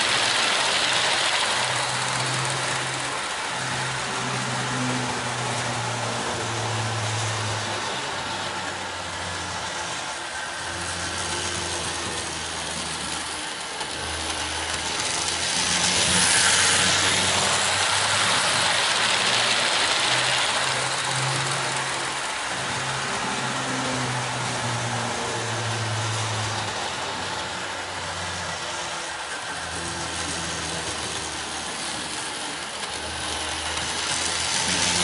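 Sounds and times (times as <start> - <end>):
model train motor whirring: 0.0 - 35.0
wheels rattling on rails: 0.0 - 35.0.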